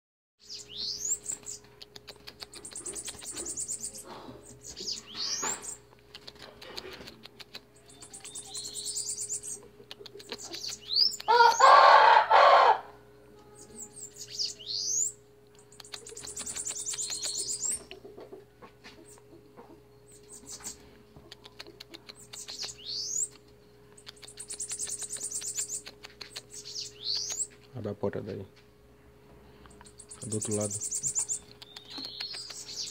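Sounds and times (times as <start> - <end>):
bird song with buzzy trills: 0.4 - 6.4, 7.3 - 28.6, 29.5 - 32.9.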